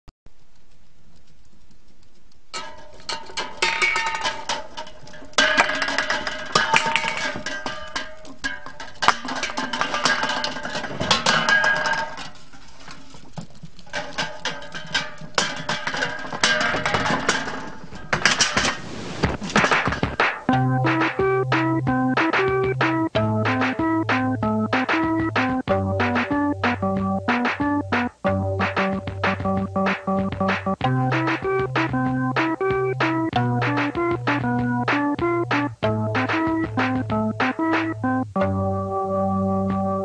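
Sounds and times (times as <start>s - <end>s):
music with clattering percussion: 2.5s - 12.6s, 13.3s - 40.0s.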